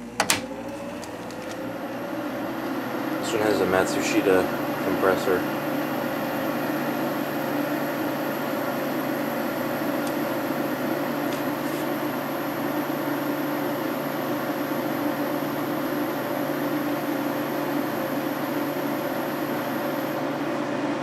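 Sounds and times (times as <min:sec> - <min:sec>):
air conditioner fan rushing air: 0:00.0 - 0:21.0.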